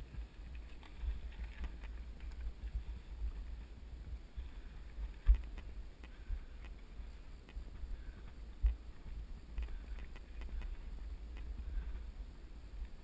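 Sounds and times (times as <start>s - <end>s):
bike tyres on gravel: 0.0s - 13.0s
wind rumble on microphone: 0.0s - 13.0s.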